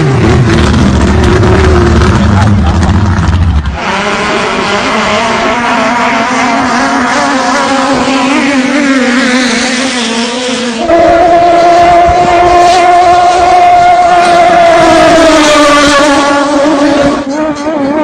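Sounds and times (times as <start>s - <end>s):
racing boat engine running hard: 0.0s - 18.0s.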